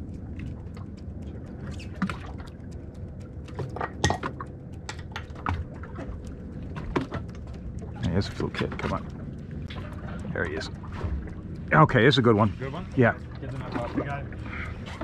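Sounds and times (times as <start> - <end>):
low steady rumble: 0.0 - 15.0
small waves slapping boat hull: 0.0 - 15.0.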